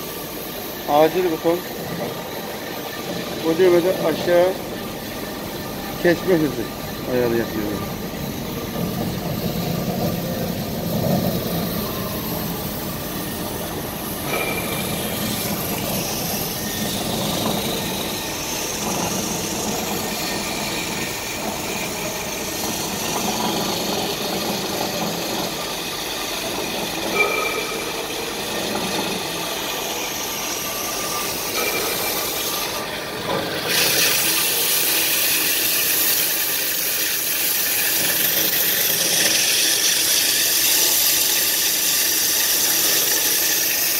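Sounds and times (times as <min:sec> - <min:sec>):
band saw cutting metal pipe: 0:00.0 - 0:43.9.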